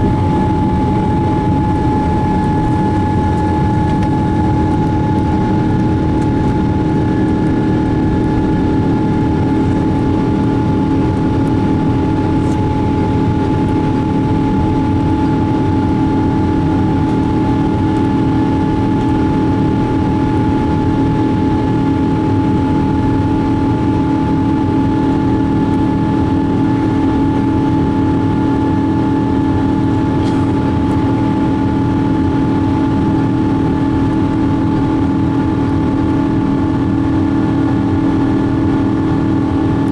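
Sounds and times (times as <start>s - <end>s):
jet engines drone in cabin: 0.0s - 39.9s.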